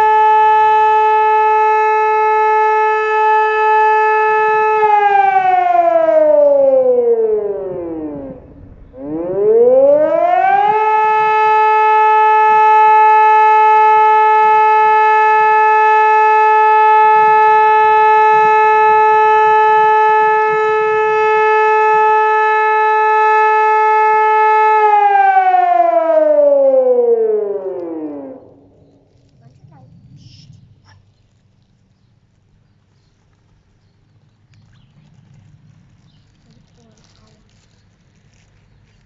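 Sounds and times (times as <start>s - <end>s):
civil defence siren: 0.0s - 31.8s, 32.8s - 39.0s.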